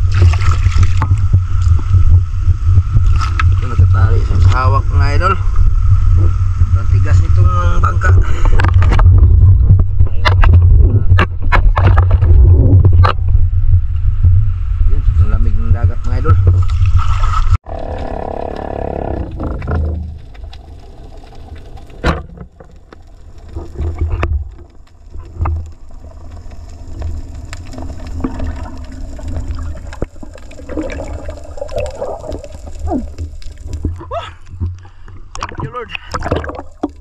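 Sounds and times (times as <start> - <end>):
camera going underwater: 0.0 - 37.0
underwater rumble: 0.0 - 37.0.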